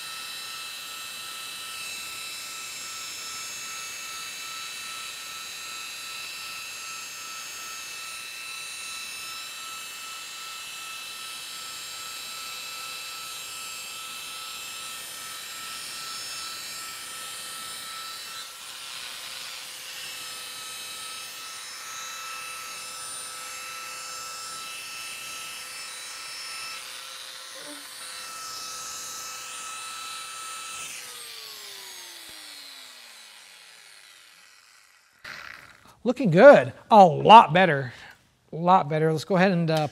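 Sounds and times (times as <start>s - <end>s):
polisher spinning down: 0.0s - 36.0s
rotary polisher whining: 0.0s - 36.1s.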